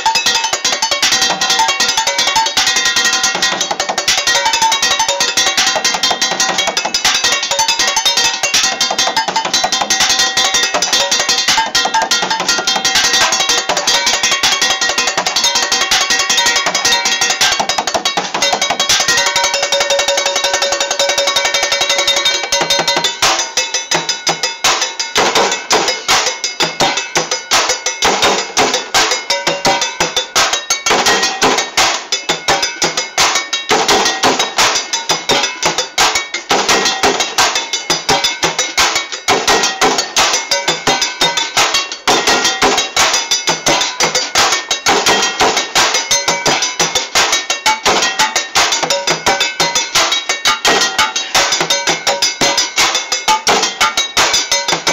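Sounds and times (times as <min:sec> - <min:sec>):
sticks drumming on cooking pots: 0:00.0 - 0:54.9.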